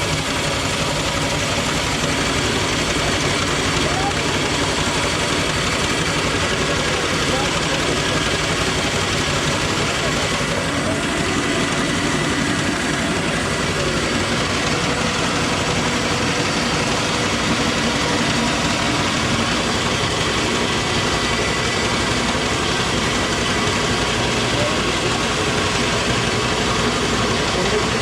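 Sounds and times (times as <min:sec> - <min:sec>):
milling machine grinding: 0:00.1 - 0:28.0.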